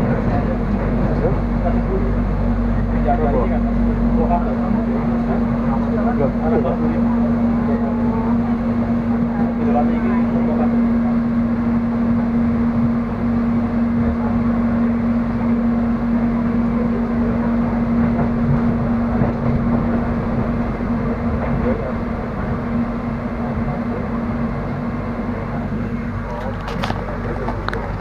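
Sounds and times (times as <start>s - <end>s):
steady electric hum: 0.0s - 28.0s
train rumble on track: 0.0s - 28.0s.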